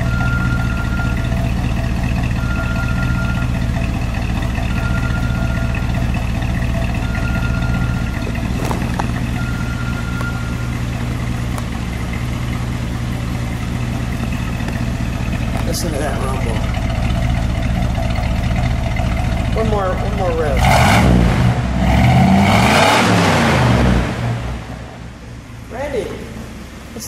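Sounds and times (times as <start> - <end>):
car engine idling with low rumble: 0.0 - 27.0.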